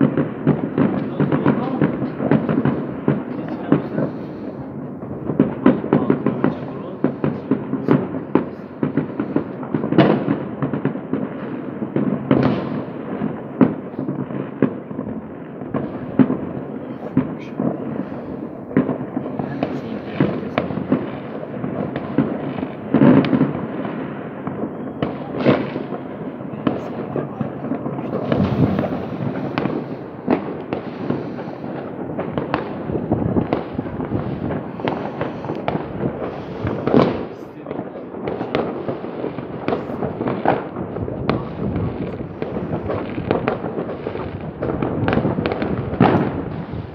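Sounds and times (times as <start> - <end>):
fireworks bangs and crackling: 0.0 - 46.9
loud firework booms: 0.0 - 46.9.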